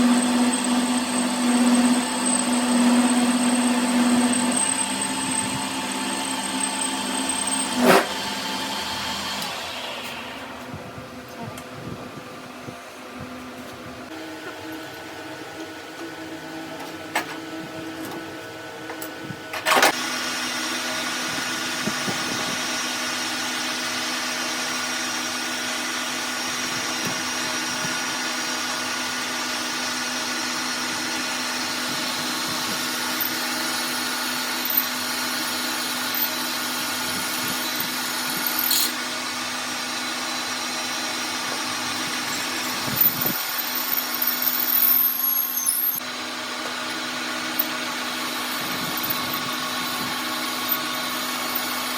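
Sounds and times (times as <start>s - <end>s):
electric power tool running: 0.0s - 10.7s, 19.9s - 51.9s.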